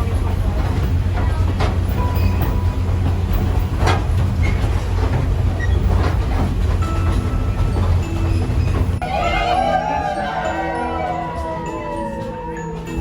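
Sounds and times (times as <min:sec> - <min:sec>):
train car rumbling on track: 0:00.0 - 0:13.0
wheels knocking: 0:00.0 - 0:13.0.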